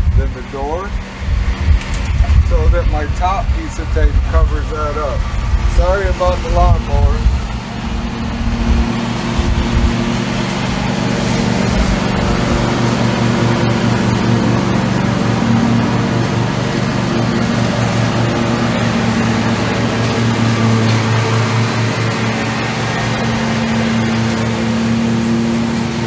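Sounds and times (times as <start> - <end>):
lawnmower engine running: 0.0 - 26.0.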